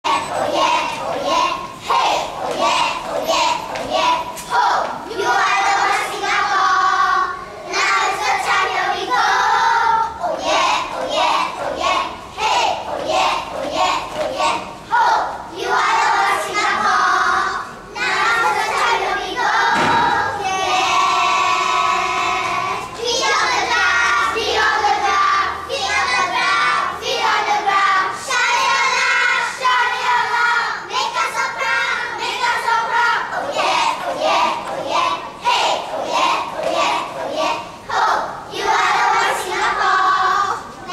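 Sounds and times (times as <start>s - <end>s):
children singing in unison: 0.0s - 40.9s.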